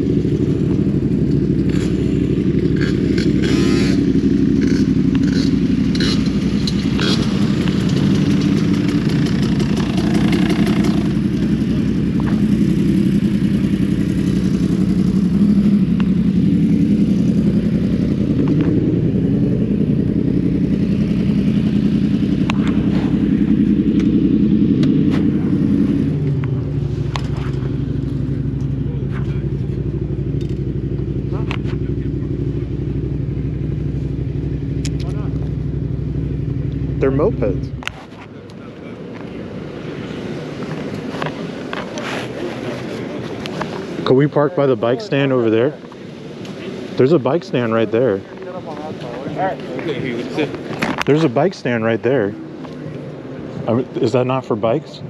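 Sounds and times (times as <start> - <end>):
motorcycle engines running: 0.0 - 55.0.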